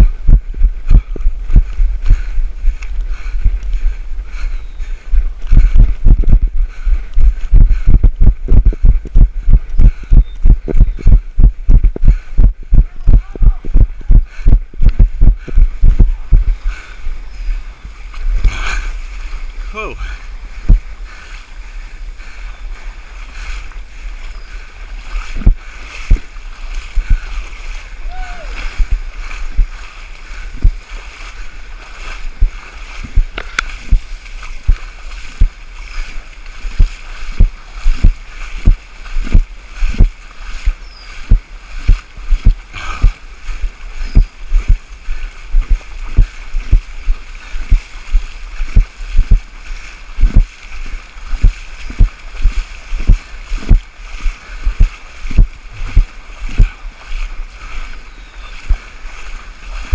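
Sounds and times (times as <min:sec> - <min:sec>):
running footsteps in mud: 0:00.0 - 0:59.9
water splashing: 0:00.0 - 0:59.9.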